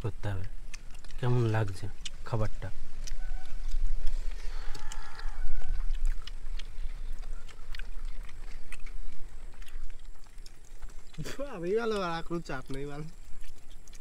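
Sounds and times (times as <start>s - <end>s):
clicks of eating by hand: 0.3s - 14.0s.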